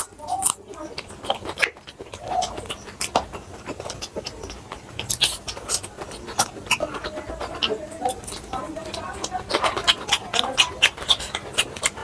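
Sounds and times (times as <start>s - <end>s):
chewing and biting bread: 0.0s - 12.0s
mouth clicks and smacks: 0.0s - 12.0s.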